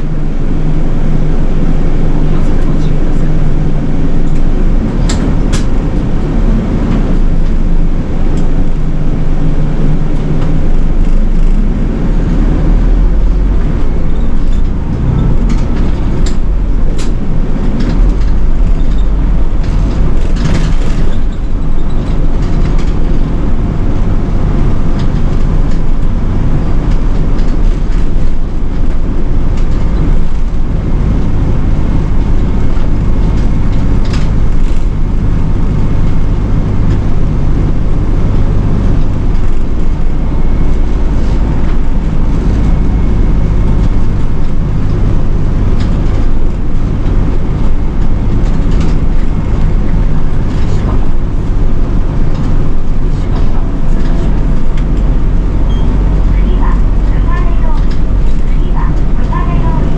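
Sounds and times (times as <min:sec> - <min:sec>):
bus diesel engine running: 0:00.0 - 0:59.9
road rumble: 0:00.0 - 0:59.9.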